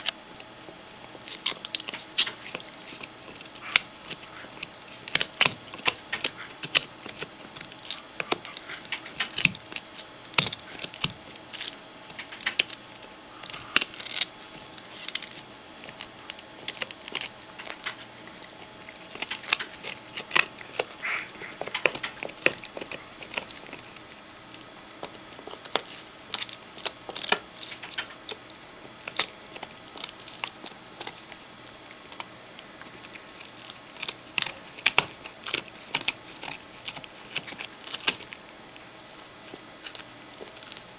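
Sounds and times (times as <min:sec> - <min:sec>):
dog gnawing rawhide chew: 0:00.0 - 0:40.9.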